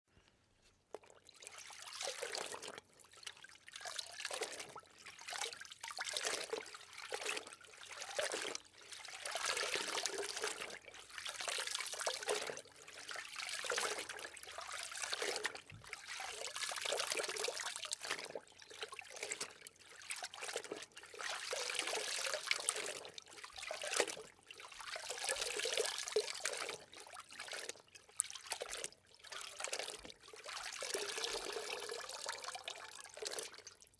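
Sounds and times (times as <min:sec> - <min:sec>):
water trickling and splashing: 0:00.9 - 0:33.9.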